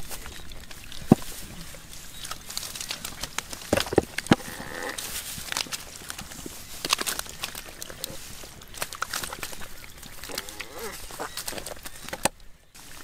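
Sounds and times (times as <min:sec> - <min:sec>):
dry straw crackling: 0:00.0 - 0:13.0
mud squelching: 0:00.0 - 0:13.0.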